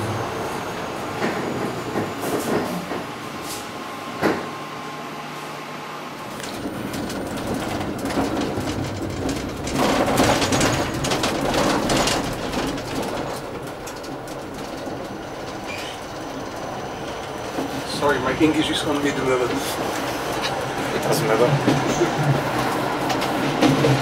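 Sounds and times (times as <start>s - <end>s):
tram wheels clattering on rails: 0.0s - 3.6s, 6.3s - 24.0s
tram low hum: 0.0s - 24.0s.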